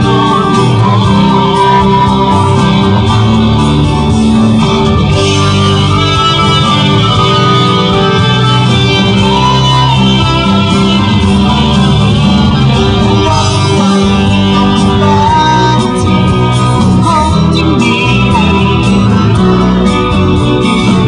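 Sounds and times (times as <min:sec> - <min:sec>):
electric guitar: 0:00.0 - 0:21.0
person singing: 0:00.0 - 0:21.0
rock band playing live: 0:00.0 - 0:21.0.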